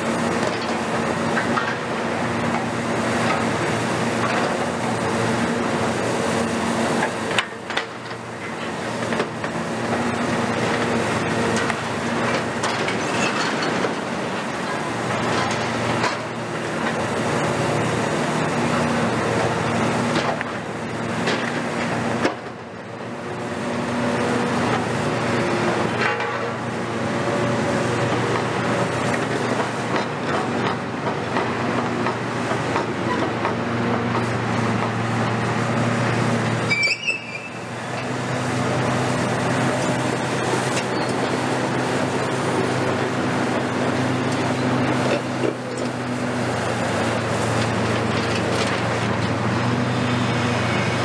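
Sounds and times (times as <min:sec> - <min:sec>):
excavator diesel engine and hydraulics: 0:00.0 - 0:51.0.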